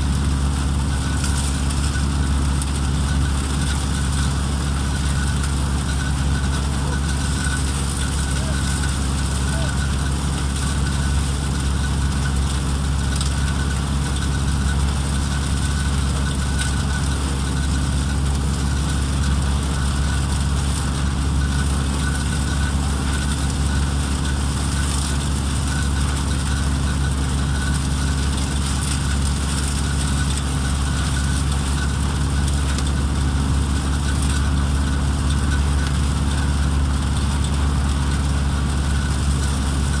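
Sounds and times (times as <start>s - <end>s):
threshing machine drone: 0.0s - 40.0s.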